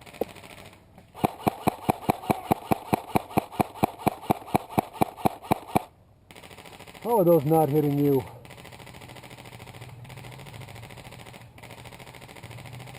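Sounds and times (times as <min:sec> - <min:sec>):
airsoft rifle rapid shots: 0:00.0 - 0:12.9.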